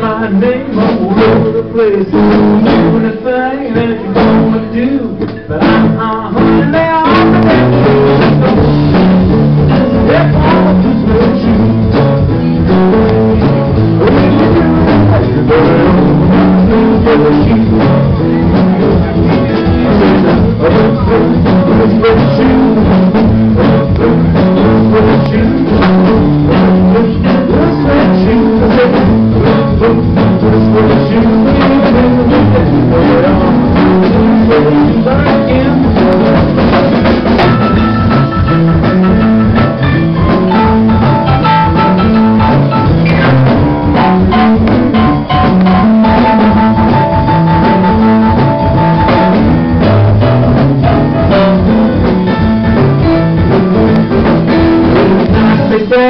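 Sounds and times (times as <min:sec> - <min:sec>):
drum kit: 0:00.0 - 0:56.0
electric guitar: 0:00.0 - 0:56.0
keyboard: 0:00.0 - 0:56.0
stepping bass line: 0:00.0 - 0:56.0.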